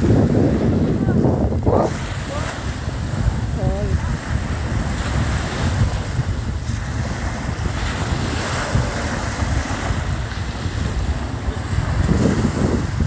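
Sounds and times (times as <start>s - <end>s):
surf washing on beach: 0.0s - 13.0s
wind buffeting microphone: 0.0s - 13.0s.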